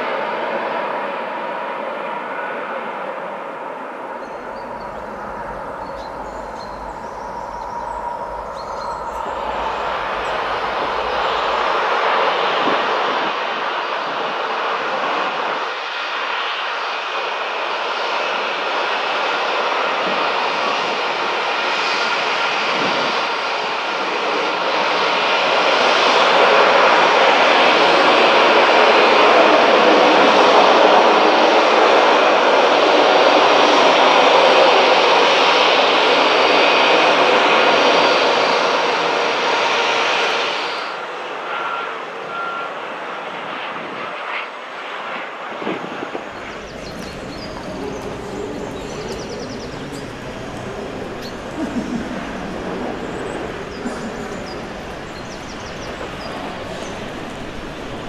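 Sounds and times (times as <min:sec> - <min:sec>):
jet engines landing: 0:00.0 - 0:58.0.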